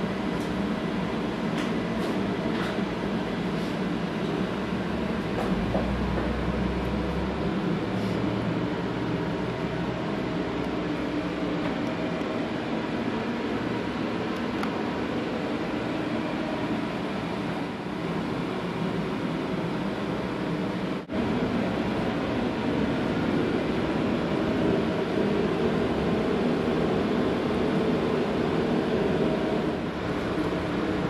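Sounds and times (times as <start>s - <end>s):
steady mechanical drone: 0.0s - 31.0s.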